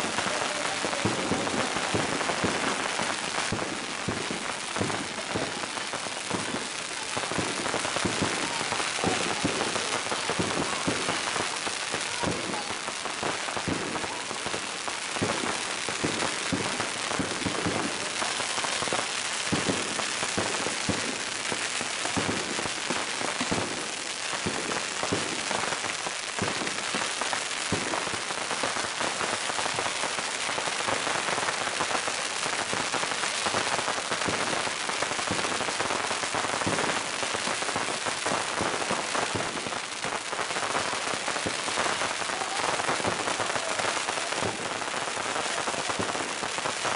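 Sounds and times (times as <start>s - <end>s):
firecrackers crackling: 0.0s - 46.9s.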